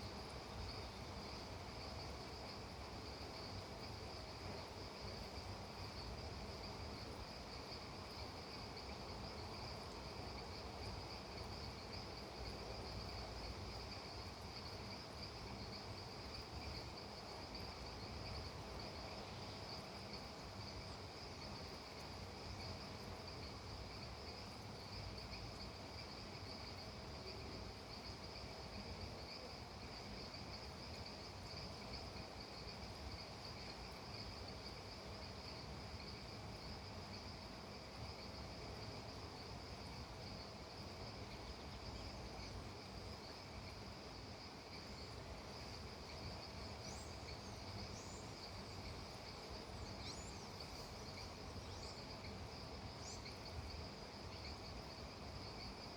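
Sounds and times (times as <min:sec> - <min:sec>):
soft even hiss: 0:00.0 - 0:55.9
insect chorus trilling: 0:00.2 - 0:55.9.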